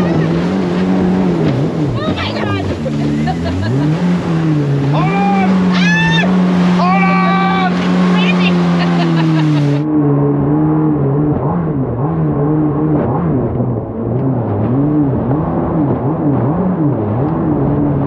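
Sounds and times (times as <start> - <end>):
jet boat engine revving: 0.0 - 18.0.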